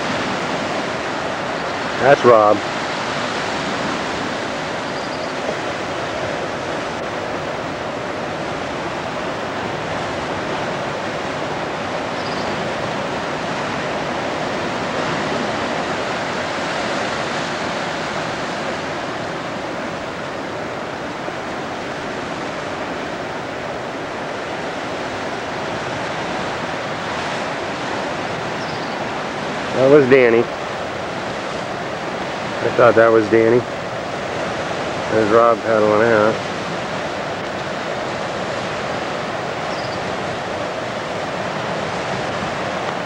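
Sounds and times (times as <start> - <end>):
ocean surf breaking: 0.0 - 43.0.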